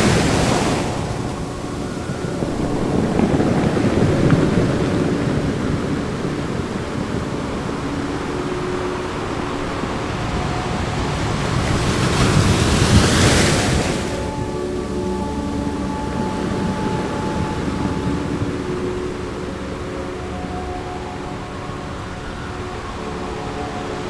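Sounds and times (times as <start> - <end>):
wave breaking: 0.0 - 21.8
ocean surf washing: 0.0 - 24.0.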